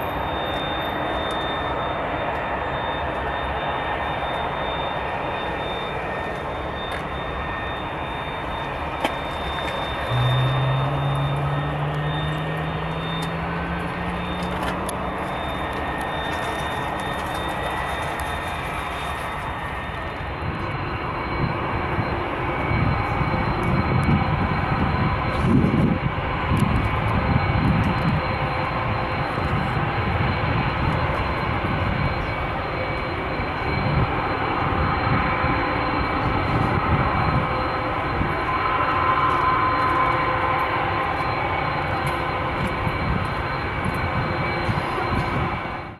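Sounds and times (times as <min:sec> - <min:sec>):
jet engine rumble: 0:00.0 - 0:45.9
jet engine whine: 0:00.0 - 0:45.9.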